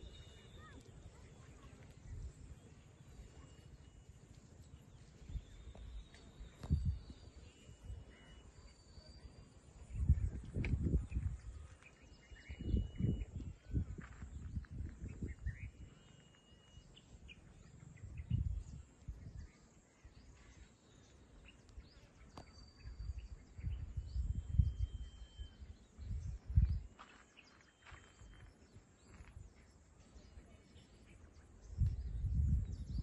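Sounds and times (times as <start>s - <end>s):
faint bird whistles and chirps: 0.0s - 33.0s.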